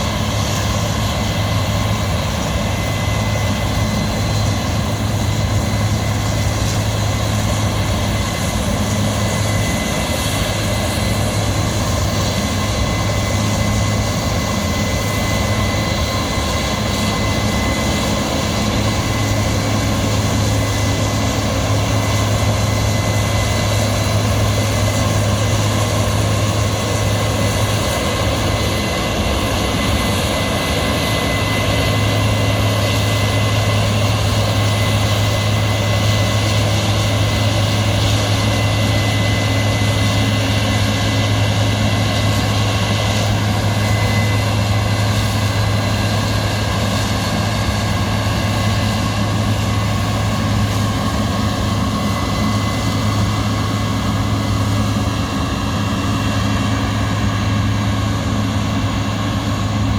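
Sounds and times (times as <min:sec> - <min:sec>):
large engine humming: 0:00.0 - 0:59.9.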